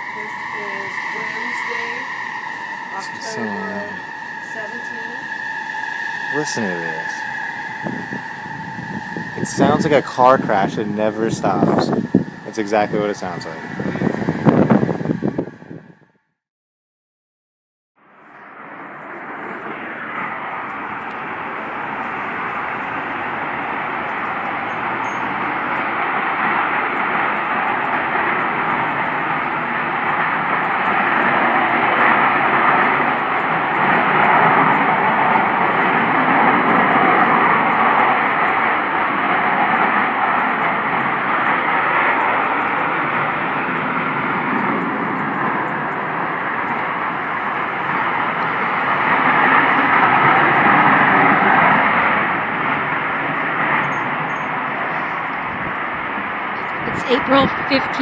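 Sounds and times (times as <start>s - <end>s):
loud continuous rushing noise: 0.0s - 16.0s, 18.0s - 58.0s.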